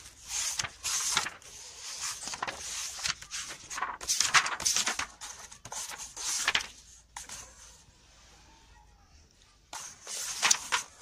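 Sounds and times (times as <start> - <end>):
book pages rustling: 0.0 - 7.8, 9.7 - 11.0.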